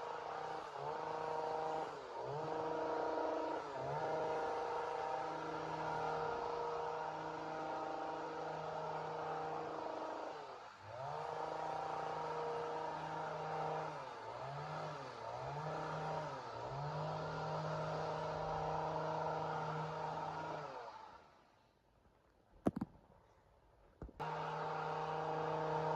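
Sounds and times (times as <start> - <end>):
chainsaw engine running: 0.0 - 21.2, 24.2 - 25.9.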